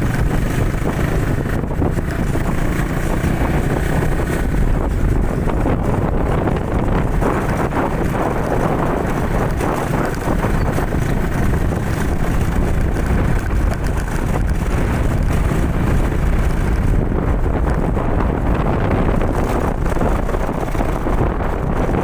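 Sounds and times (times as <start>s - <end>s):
motorcycle running: 0.0s - 22.0s
wind rushing over microphone: 0.0s - 22.0s.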